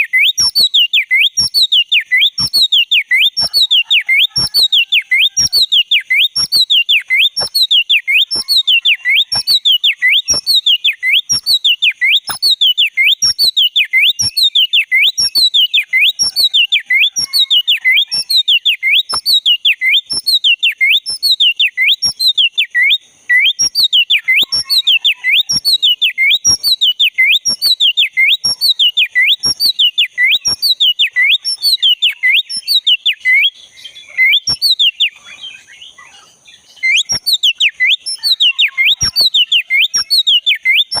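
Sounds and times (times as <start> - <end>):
bird whistled calls: 0.0 - 41.0.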